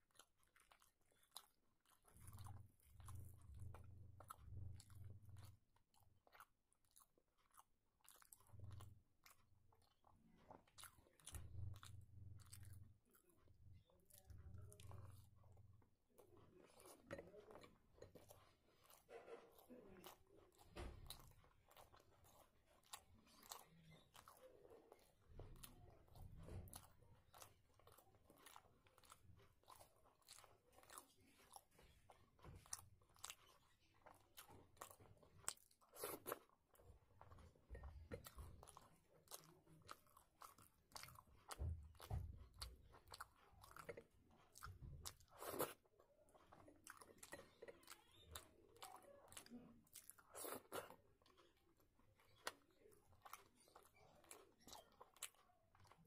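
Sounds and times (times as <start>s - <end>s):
wet chewing: 0.0s - 56.0s.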